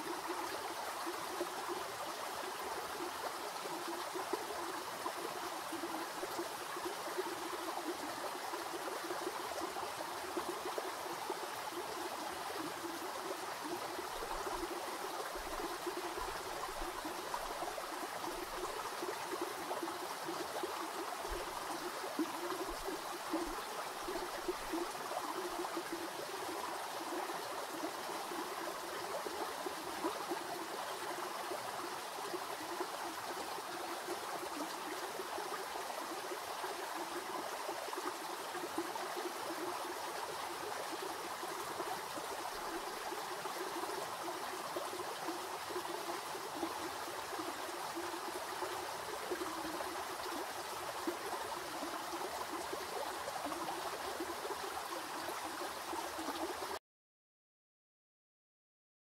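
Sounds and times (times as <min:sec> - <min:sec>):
creek water trickling: 0:00.0 - 0:56.8.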